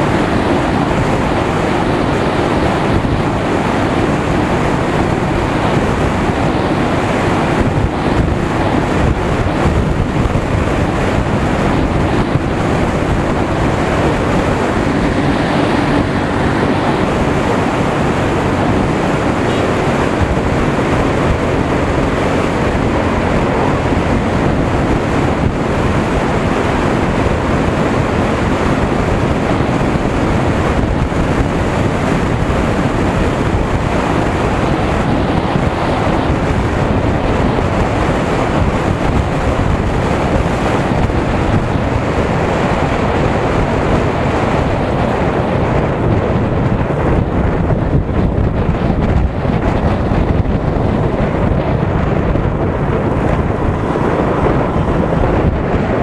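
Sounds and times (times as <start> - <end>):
motorcycle engine humming: 0.0 - 56.0
wind rushing on microphone: 0.0 - 56.0.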